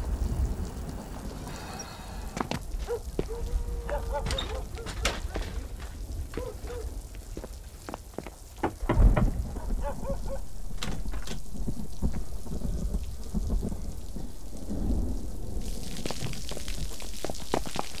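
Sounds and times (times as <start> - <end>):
rain falling: 0.0 - 18.0
thunder rumble: 0.0 - 18.0.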